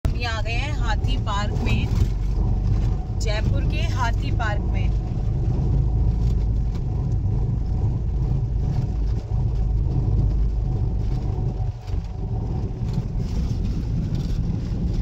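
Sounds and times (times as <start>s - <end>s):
car driving on paved road: 0.0s - 15.0s.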